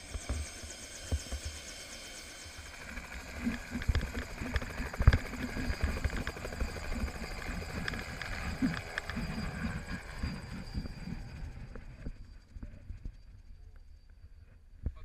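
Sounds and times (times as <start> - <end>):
helicopter rotor thumping: 0.0 - 12.2.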